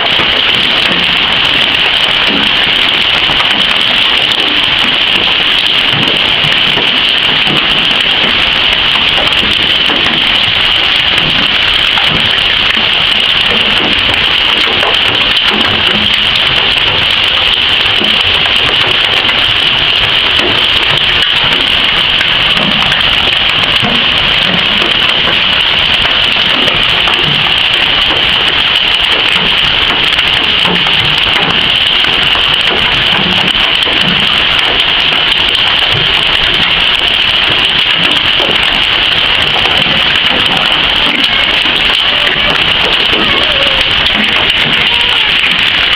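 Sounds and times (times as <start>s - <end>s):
hail and heavy rain pelting: 0.0s - 45.9s.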